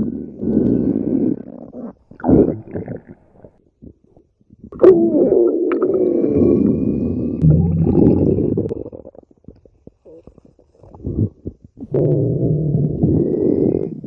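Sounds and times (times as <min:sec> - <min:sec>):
stomach growling: 0:00.0 - 0:14.0.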